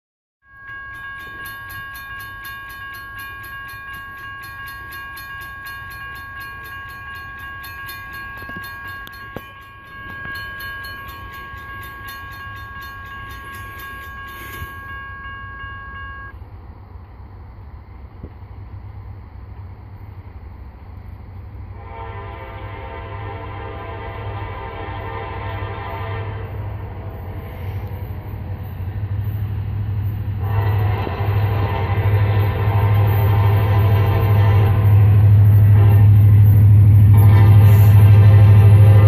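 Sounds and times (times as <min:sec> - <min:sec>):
railroad crossing bell ringing: 0:00.4 - 0:16.4, 0:21.7 - 0:39.0.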